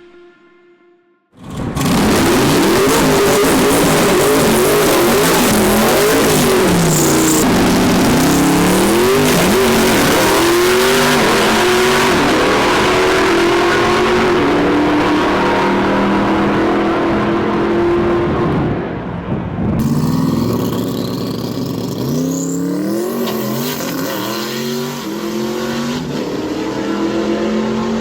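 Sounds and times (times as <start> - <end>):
car engine revving: 1.4 - 28.0.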